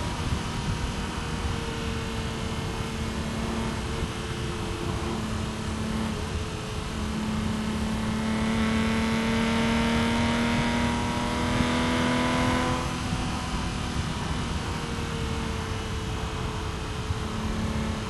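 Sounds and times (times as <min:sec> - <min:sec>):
car engine accelerating: 0:00.0 - 0:18.0
tyre and road noise: 0:00.0 - 0:18.0.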